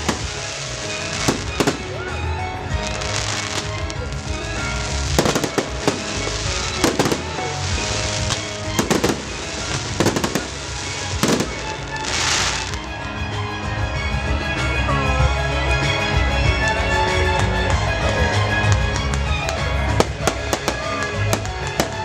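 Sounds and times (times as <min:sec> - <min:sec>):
fireworks bursting with crackle: 0:00.0 - 0:13.7, 0:17.3 - 0:22.0
loud music: 0:00.0 - 0:22.0.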